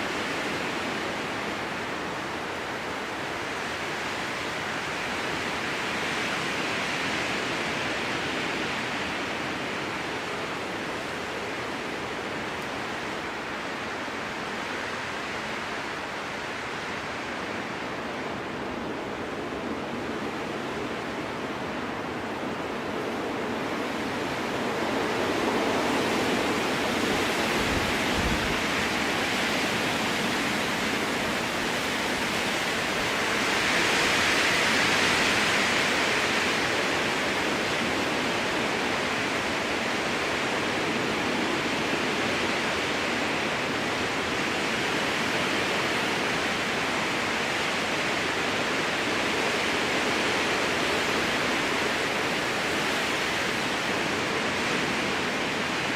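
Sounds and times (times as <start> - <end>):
strong wind through trees: 0.0 - 55.9.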